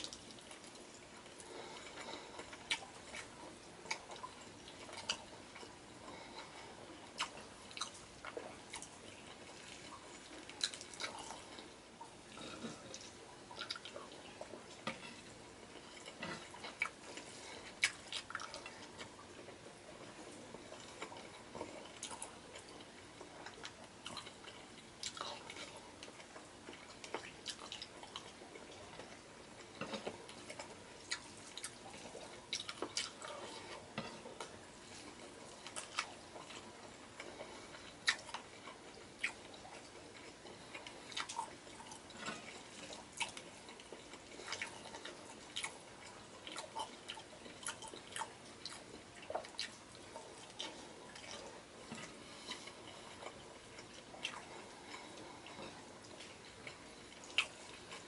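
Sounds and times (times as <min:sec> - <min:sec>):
wet chewing and lip-smacking: 0:00.0 - 0:11.8, 0:12.6 - 0:15.0, 0:15.6 - 0:19.6, 0:20.2 - 0:58.0.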